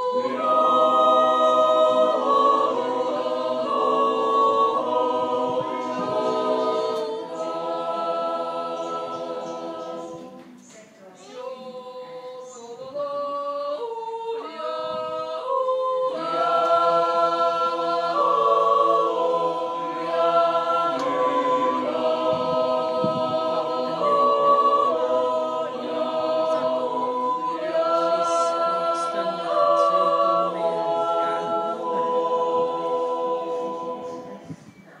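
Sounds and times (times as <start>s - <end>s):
men's choir yodeling: 0.0s - 10.4s, 13.0s - 34.4s.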